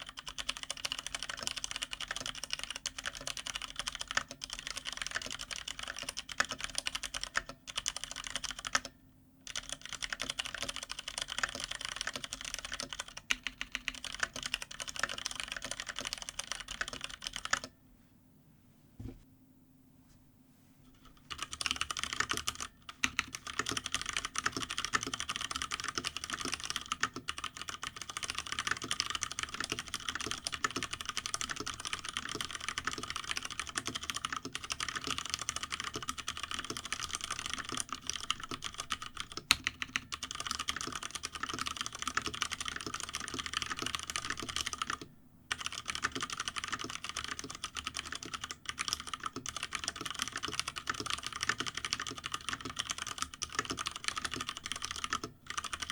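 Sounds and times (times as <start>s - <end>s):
mechanical keyboard typing: 0.0s - 17.7s, 21.0s - 55.9s.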